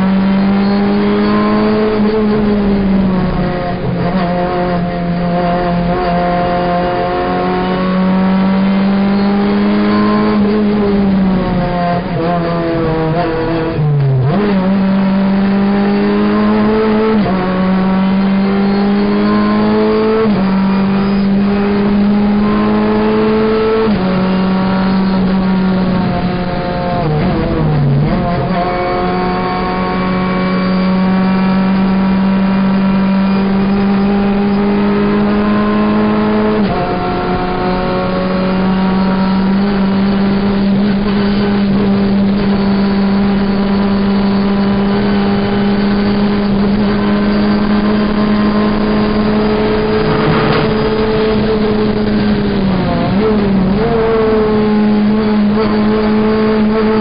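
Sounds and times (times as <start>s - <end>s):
race car engine revving hard: 0.0s - 57.0s.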